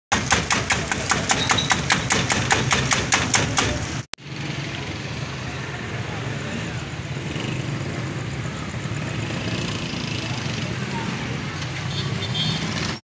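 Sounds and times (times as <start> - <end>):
busy street hum: 0.1 - 13.0.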